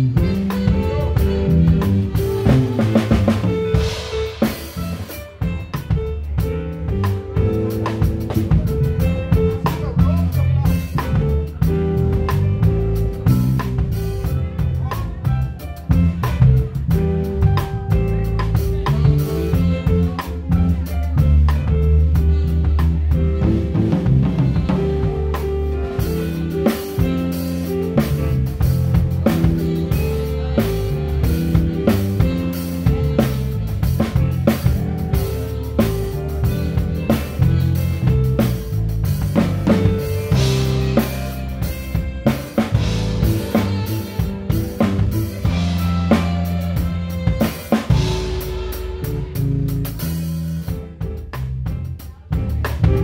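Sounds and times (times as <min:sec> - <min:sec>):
drum kit hits: 0:00.0 - 0:53.0
live band music: 0:00.0 - 0:53.0.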